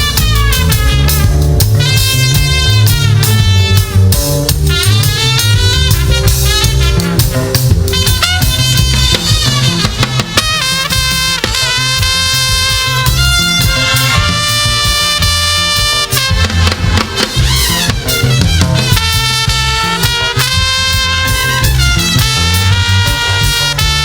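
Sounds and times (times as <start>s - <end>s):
brass horns: 0.0s - 24.0s
drum kit beat: 0.0s - 24.0s
gospel band music: 0.0s - 24.0s.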